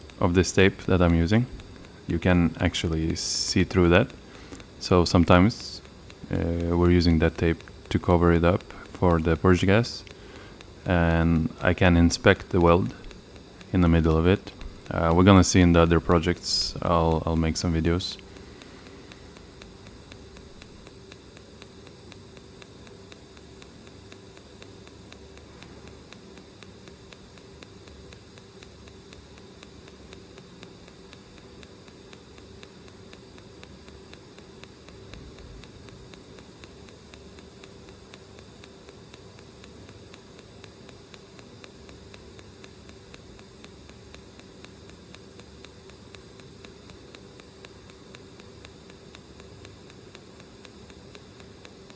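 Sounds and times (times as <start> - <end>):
welding arc hissing: 0.0 - 51.9.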